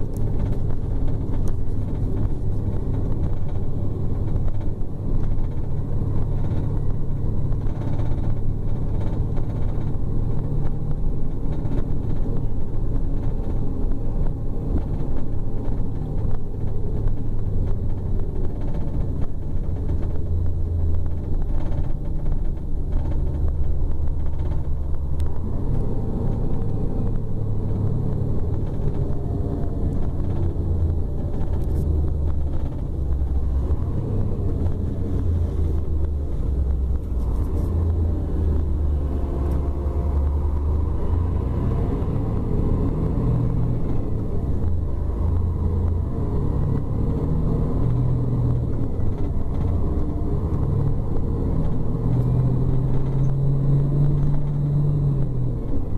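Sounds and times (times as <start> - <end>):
diesel coach engine droning: 0.0 - 55.9.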